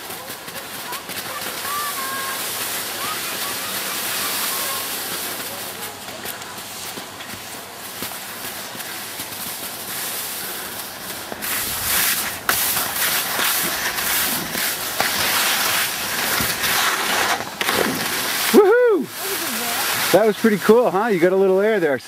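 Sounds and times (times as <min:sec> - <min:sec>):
skis scraping over wet snow: 0:00.0 - 0:22.0.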